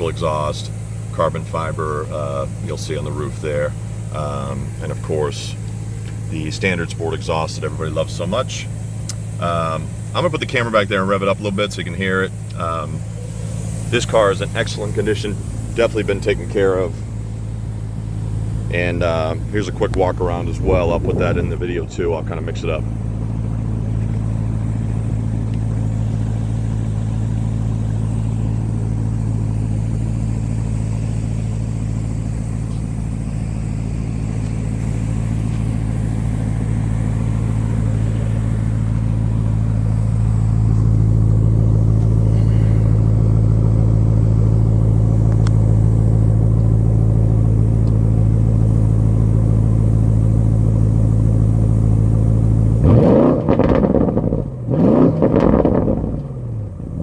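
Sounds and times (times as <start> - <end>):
car engine idling: 0.0 - 57.0
engine revving: 0.0 - 57.0.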